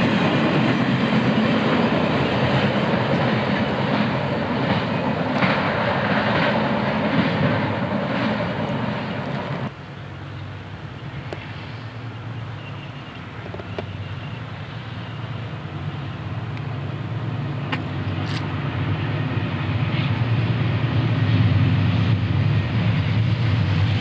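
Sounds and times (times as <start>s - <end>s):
diesel locomotive engine rumble: 0.0s - 24.0s.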